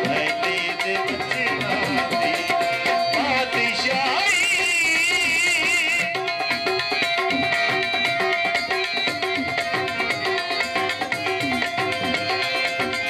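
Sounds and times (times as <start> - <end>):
harmonium: 0.0 - 13.0
tabla rhythm: 0.0 - 13.0.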